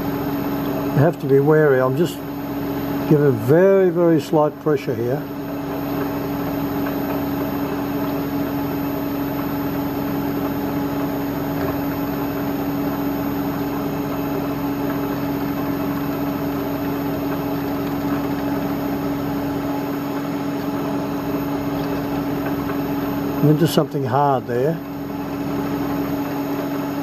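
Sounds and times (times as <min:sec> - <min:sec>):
milling machine humming: 0:00.0 - 0:27.0.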